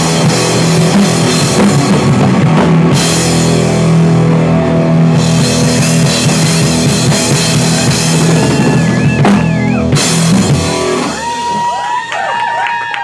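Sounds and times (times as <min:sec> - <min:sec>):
live rock band playing: 0:00.0 - 0:12.6.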